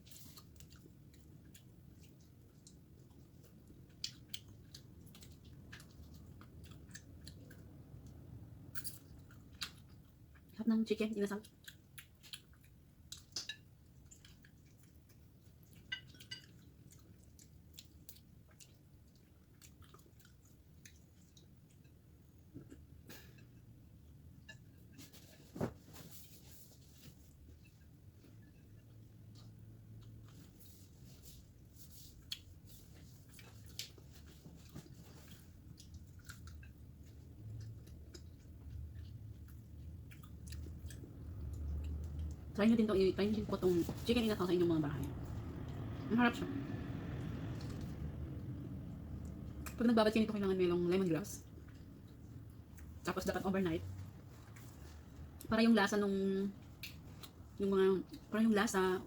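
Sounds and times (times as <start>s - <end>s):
chewing with wet mouth clicks: 0.0s - 10.6s, 11.3s - 24.8s, 27.5s - 42.6s, 45.0s - 53.1s, 54.0s - 55.5s, 56.5s - 58.3s.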